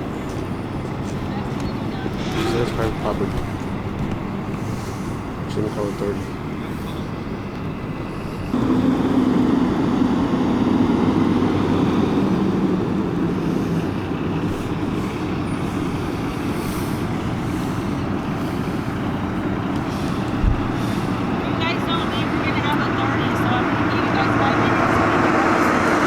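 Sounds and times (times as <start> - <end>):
large vehicle engine humming: 0.0 - 26.0.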